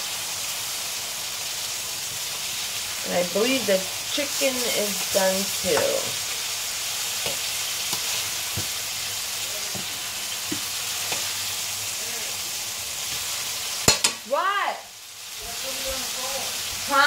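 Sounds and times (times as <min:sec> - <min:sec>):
chicken sizzling in frying: 0:00.0 - 0:17.0.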